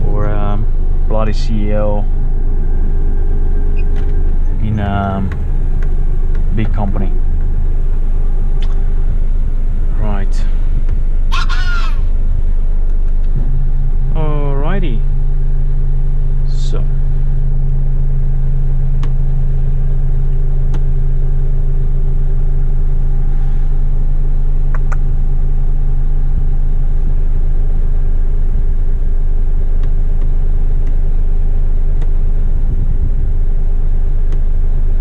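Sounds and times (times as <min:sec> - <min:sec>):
truck diesel engine droning: 0:00.0 - 0:35.0.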